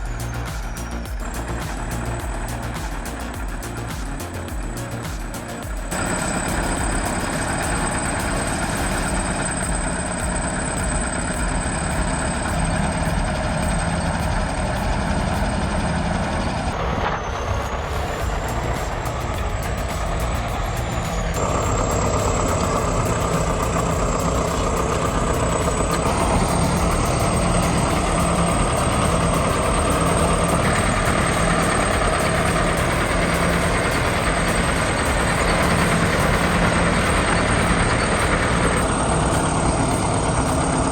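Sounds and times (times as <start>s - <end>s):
heavy machinery diesel engine: 0.0s - 40.9s.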